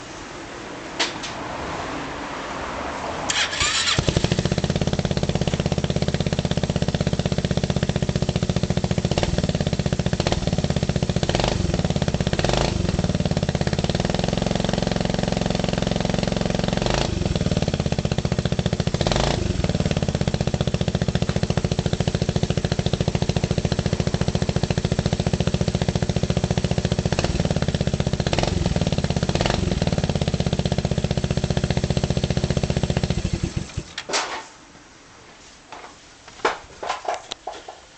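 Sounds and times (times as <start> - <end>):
scooter engine idling: 3.3 - 33.9.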